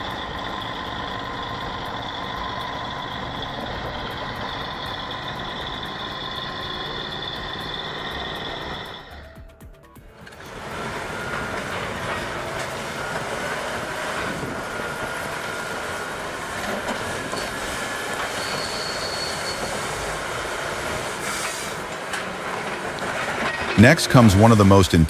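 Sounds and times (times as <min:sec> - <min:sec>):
bulldozer engine running: 0:00.0 - 0:25.0
steel tracks clanking: 0:00.0 - 0:25.0.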